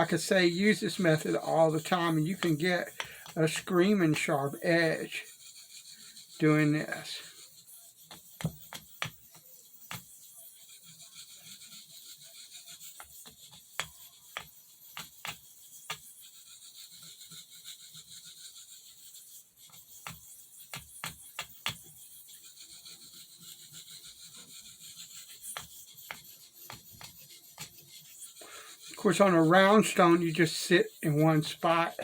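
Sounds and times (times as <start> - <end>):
knife scraping on whetstone: 0.0 - 32.0.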